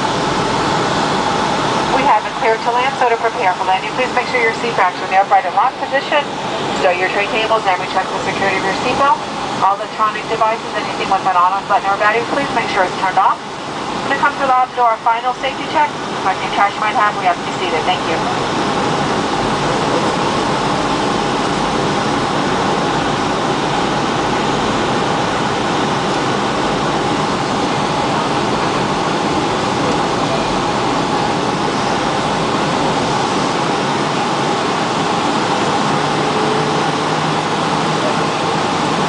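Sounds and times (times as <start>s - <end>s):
faint steady hum: 0.0s - 37.0s
airliner cabin engine rush: 0.0s - 39.0s.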